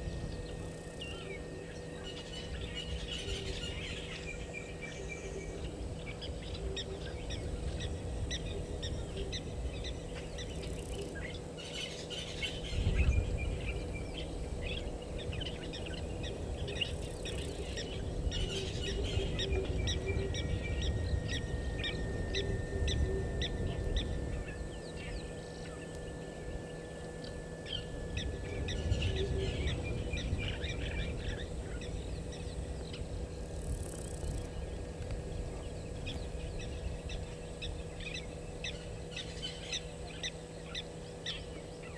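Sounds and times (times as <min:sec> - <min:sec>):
steady low rumble: 0:00.0 - 0:41.9
wild birds chirping and calling: 0:00.3 - 0:41.9.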